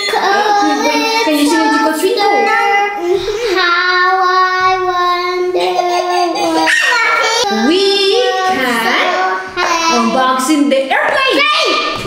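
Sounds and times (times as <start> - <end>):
child singing: 0.0 - 10.2.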